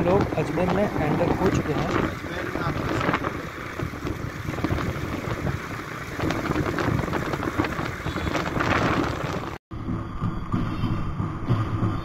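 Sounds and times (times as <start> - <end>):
vehicle road noise: 0.0 - 12.0
wind buffeting the microphone: 0.0 - 12.0.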